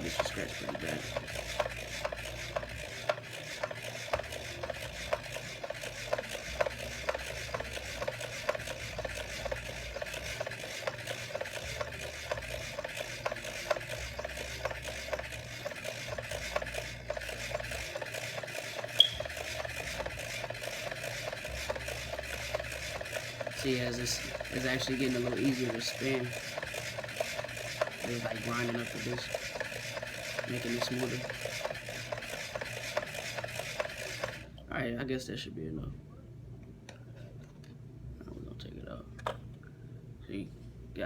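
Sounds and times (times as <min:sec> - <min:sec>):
wheel grinding over wet disc: 0:00.0 - 0:34.4.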